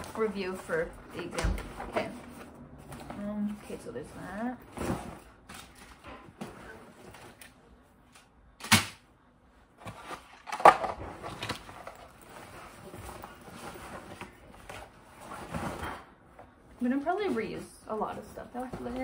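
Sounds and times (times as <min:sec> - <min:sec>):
rustling of school supplies: 0:00.0 - 0:08.8, 0:09.6 - 0:19.0.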